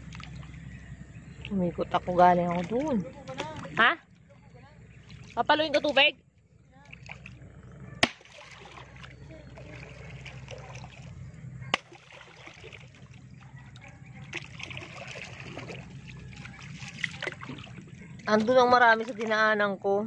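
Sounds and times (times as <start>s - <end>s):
water splashing around paddled boat: 0.0s - 7.4s, 8.0s - 19.8s.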